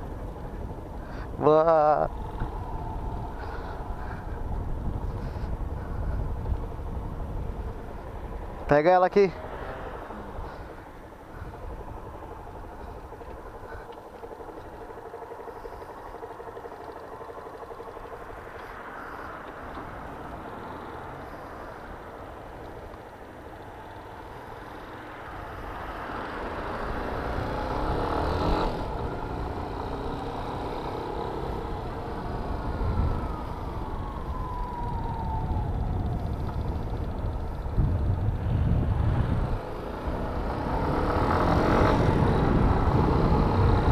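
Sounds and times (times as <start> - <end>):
cars passing: 0.0 - 43.9
motorcycle engine idling and revving: 0.0 - 43.9.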